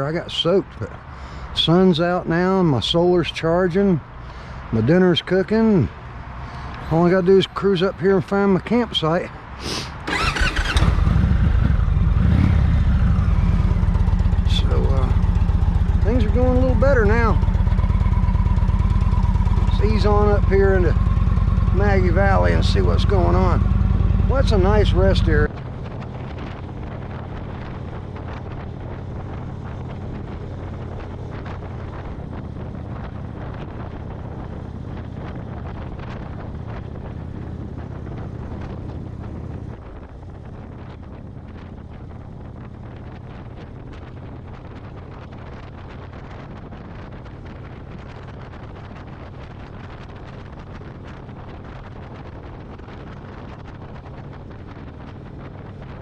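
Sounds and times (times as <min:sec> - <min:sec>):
wind buffeting microphone: 0:09.4 - 0:56.0
motorcycle engine running: 0:10.0 - 0:56.0.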